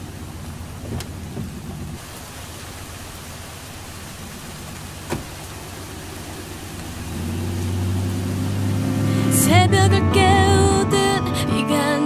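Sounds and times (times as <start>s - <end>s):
steady rain falling: 0.0s - 11.2s.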